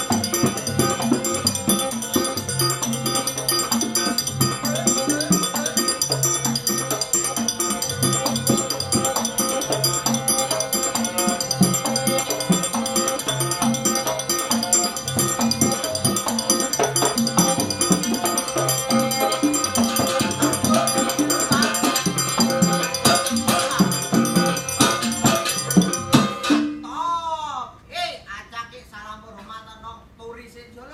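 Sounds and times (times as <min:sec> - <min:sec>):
jingling rattling percussion: 0:00.0 - 0:26.8
sustained pitched instrument lines: 0:00.0 - 0:27.0
drums: 0:00.0 - 0:27.9.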